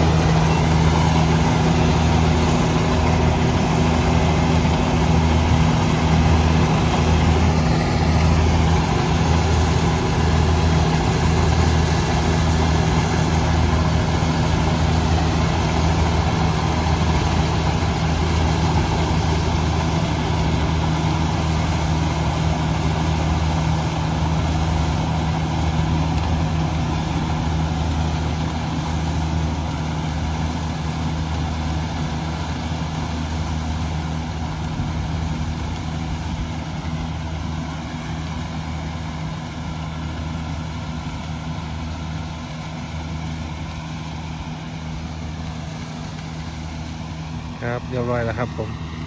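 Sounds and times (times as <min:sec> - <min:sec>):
combine harvester engine running: 0:00.0 - 0:49.0.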